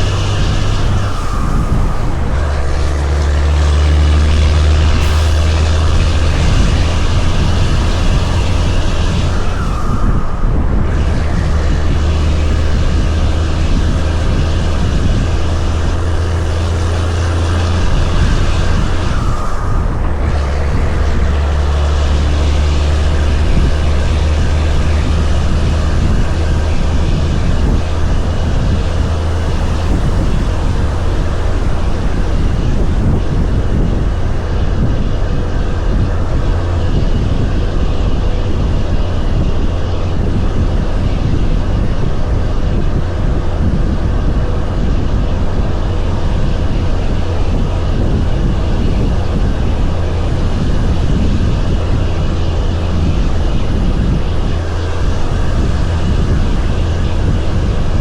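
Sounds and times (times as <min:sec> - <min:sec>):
road noise: 0:00.0 - 0:58.0
truck diesel engine droning: 0:00.0 - 0:58.0.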